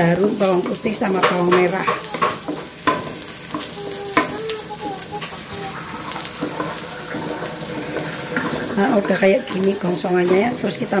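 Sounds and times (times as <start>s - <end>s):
garlic sizzling in hot oil: 0.0s - 11.0s
spatula scraping and tapping wok: 0.1s - 11.0s.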